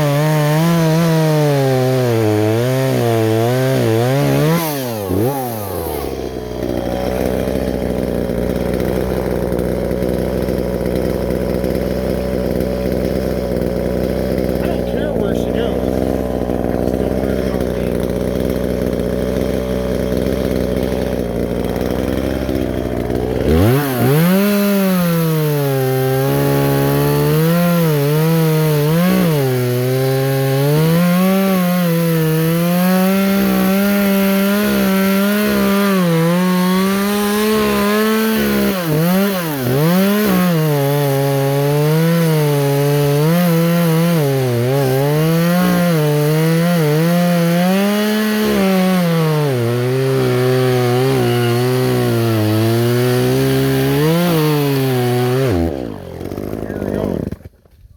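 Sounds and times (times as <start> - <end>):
chainsaw engine revving: 0.0 - 57.6
chainsaw cutting wood: 0.0 - 57.9.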